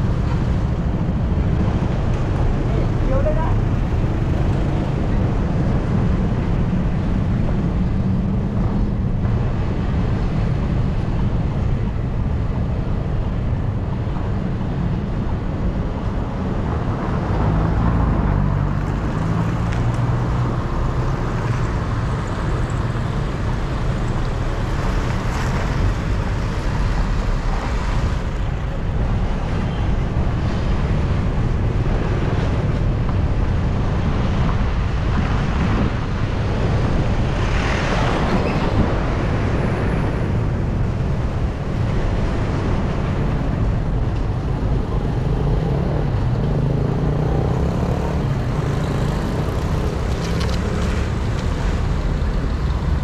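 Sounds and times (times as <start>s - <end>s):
traffic noise: 0.0s - 53.0s
wind rumble on microphone: 0.0s - 53.0s.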